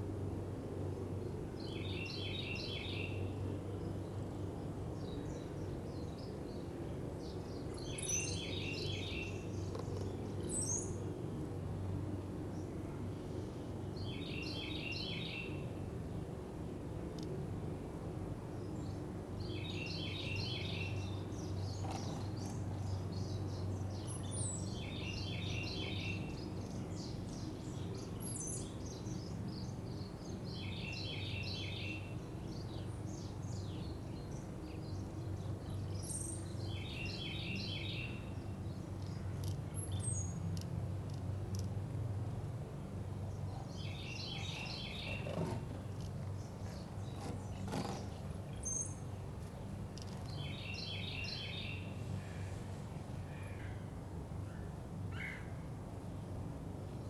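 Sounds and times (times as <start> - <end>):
low background hum: 0.0 - 57.0
songbird singing: 1.0 - 11.4, 12.4 - 16.4, 18.5 - 41.8, 42.9 - 56.2.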